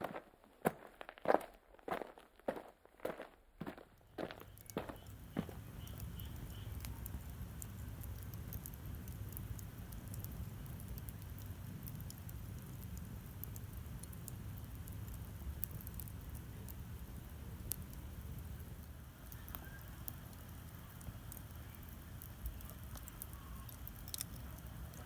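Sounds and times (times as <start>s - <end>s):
low fire rumble: 3.7s - 25.0s
campfire crackling and popping: 4.0s - 25.0s.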